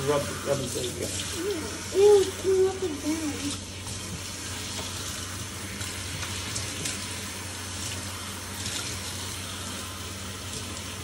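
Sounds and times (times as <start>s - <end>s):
water spraying onto dog's coat: 0.0s - 11.0s.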